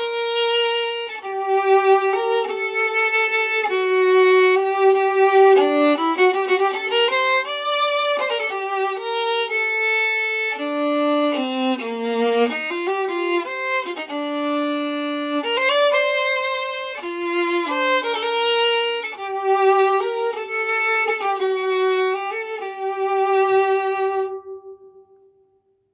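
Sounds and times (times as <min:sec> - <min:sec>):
solo viola melody: 0:00.0 - 0:25.4.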